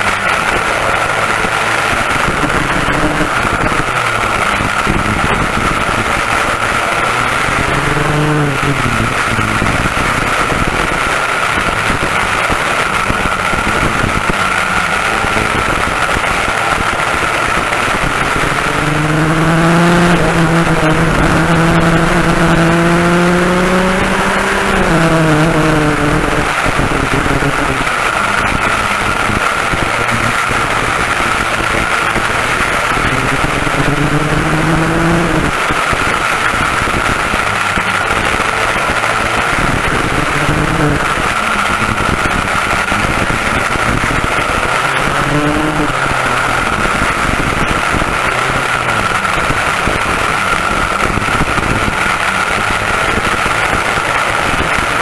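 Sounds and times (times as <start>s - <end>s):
kart engines running hard: 0.0s - 55.0s
wind rush: 0.0s - 55.0s.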